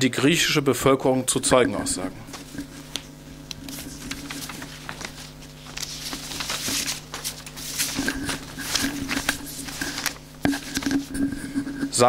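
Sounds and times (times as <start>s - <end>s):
steady low hum: 0.0s - 12.0s
paper rustling and crackling: 2.3s - 12.0s.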